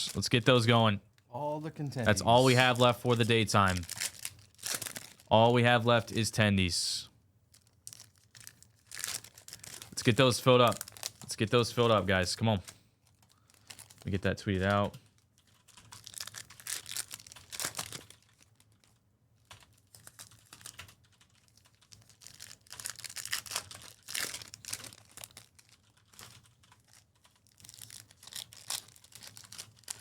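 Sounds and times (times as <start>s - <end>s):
crinkly rustling: 2.0s - 5.3s, 7.5s - 30.0s.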